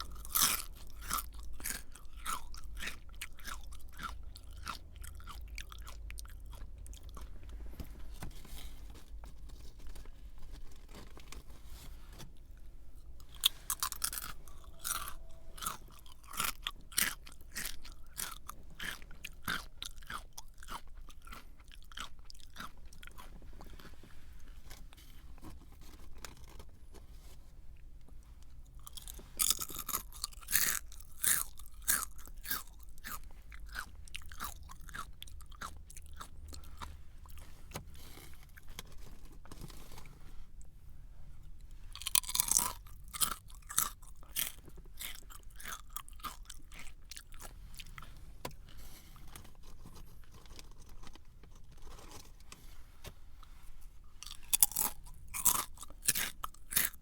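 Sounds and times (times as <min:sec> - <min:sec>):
person chewing crunchy snack: 0:00.0 - 0:26.7, 0:27.8 - 0:40.2, 0:41.5 - 0:52.4, 0:53.4 - 0:57.0
faint low hum: 0:00.0 - 0:57.0.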